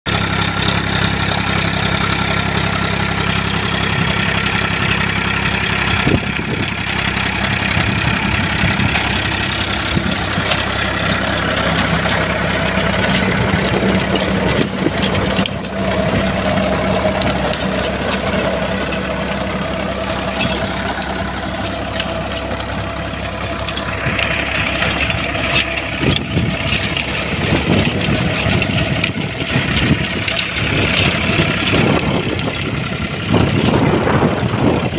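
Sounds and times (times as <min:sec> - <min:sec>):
tractor diesel engine running: 0:00.0 - 0:34.9
rotavator blades churning soil: 0:00.1 - 0:34.9.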